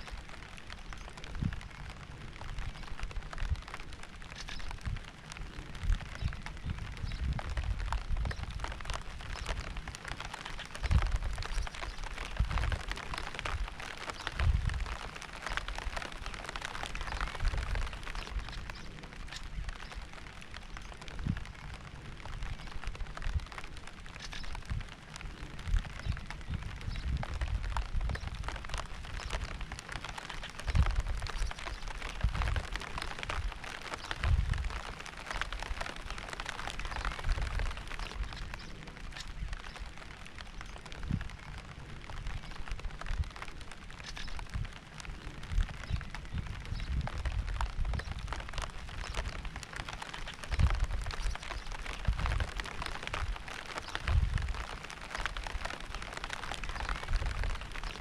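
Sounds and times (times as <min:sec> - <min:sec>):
rain drops hitting a surface: 0:00.0 - 0:58.0.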